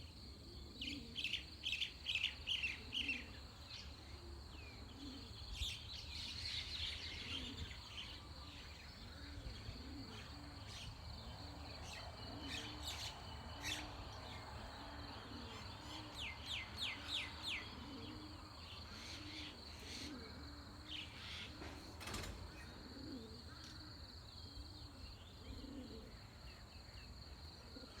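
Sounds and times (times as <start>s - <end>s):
birds chirping and calling: 0.8s - 26.2s.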